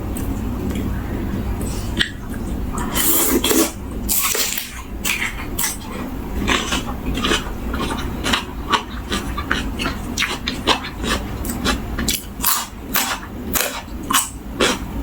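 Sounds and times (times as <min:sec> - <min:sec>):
crunching and chewing food: 0:01.9 - 0:15.0.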